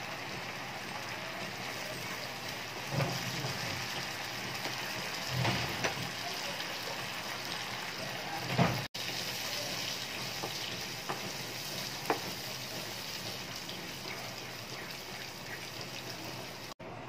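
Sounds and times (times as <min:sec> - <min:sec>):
food sizzling in oil: 0:00.0 - 0:16.8.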